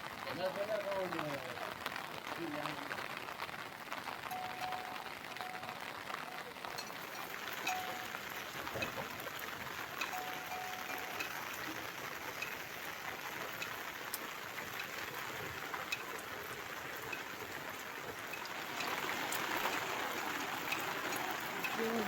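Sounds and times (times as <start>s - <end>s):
raindrops tapping surfaces: 0.0s - 22.0s
steady rain falling: 0.0s - 22.0s.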